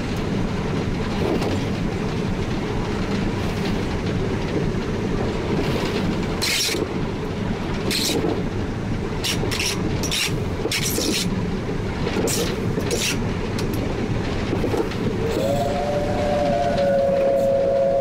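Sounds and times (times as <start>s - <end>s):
locomotive running gear rumble: 0.0s - 18.0s.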